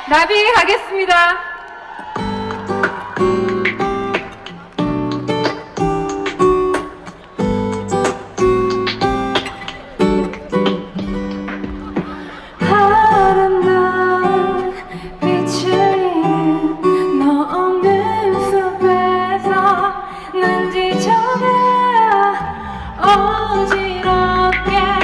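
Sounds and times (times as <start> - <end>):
strummed acoustic guitar: 2.1 - 25.0.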